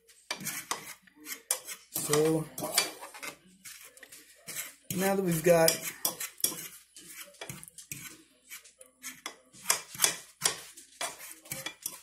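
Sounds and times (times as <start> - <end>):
fork clinking and scraping in pan: 0.2 - 12.0.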